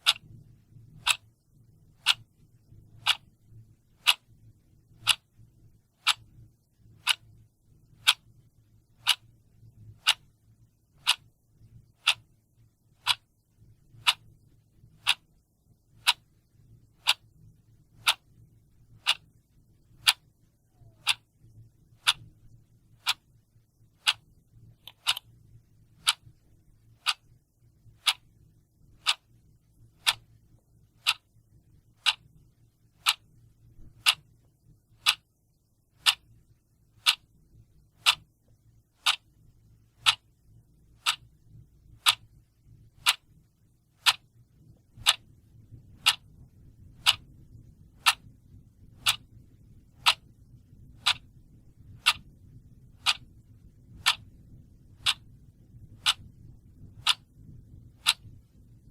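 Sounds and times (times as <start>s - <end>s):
clock ticking: 0.0s - 5.4s, 6.0s - 35.4s, 36.0s - 36.4s, 37.0s - 37.3s, 38.0s - 38.3s, 39.0s - 39.3s, 40.0s - 40.4s, 41.0s - 43.4s, 44.0s - 58.9s
faint low hum: 0.0s - 58.9s.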